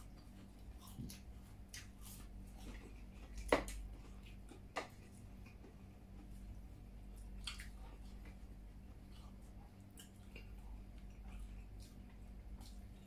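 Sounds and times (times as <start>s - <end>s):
people chewing food: 0.0s - 13.0s
steady low hum: 0.0s - 13.0s.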